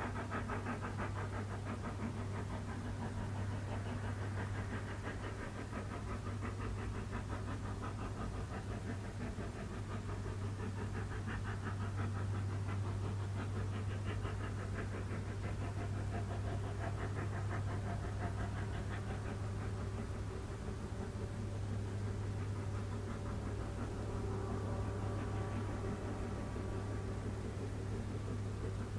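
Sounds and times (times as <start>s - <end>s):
steady low hum: 0.0s - 28.9s
steam locomotive exhaust blasts: 0.0s - 28.9s.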